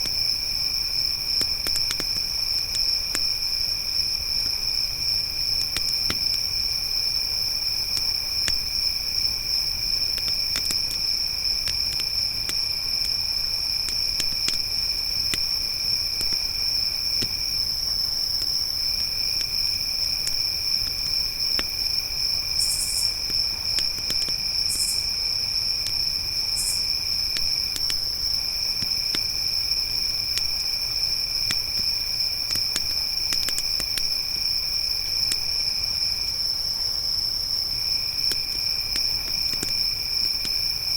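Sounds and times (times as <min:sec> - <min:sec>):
campfire crackling: 0:00.0 - 0:35.6
crickets trilling: 0:00.0 - 0:40.9.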